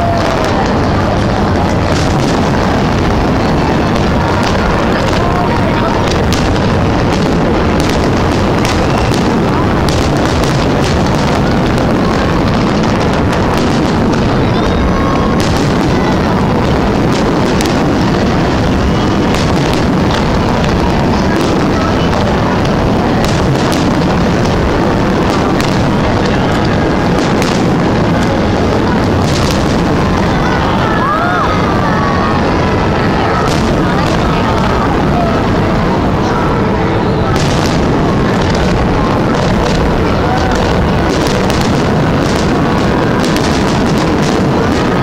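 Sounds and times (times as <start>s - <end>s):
fireworks bangs and crackles: 0.0s - 45.0s
fireworks booming: 0.0s - 45.0s.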